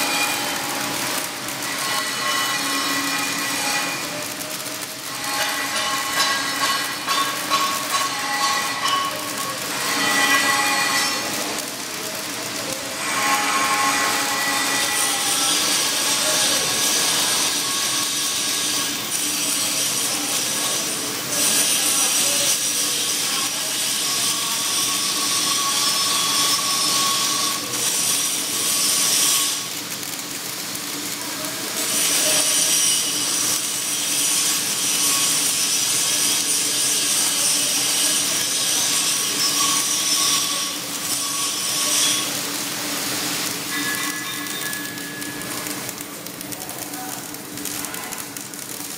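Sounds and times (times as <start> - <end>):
welding arc hissing: 0.0 - 48.9.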